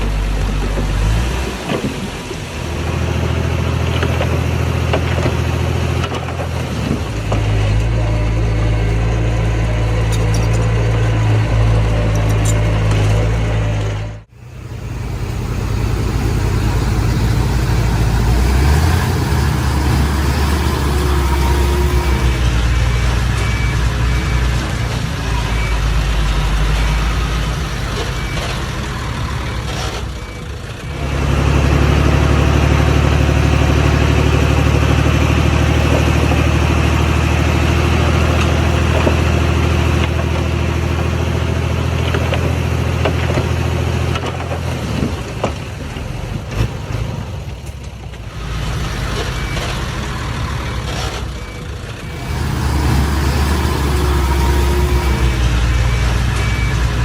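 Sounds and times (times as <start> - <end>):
earthmoving machinery diesel engines: 0.0 - 57.0.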